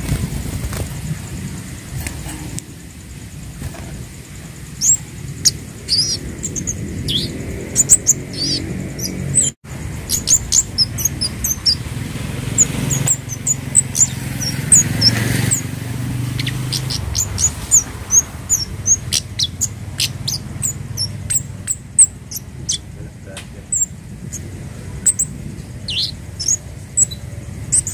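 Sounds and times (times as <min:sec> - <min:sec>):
birds chipping high-pitched: 0:00.0 - 0:27.9
low background rumble: 0:00.0 - 0:27.9.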